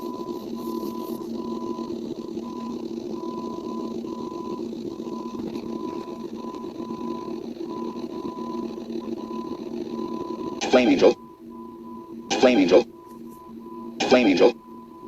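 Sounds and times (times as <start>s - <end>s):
electronic beep tone: 0.0s - 15.0s
low buzzing hum: 0.0s - 15.0s.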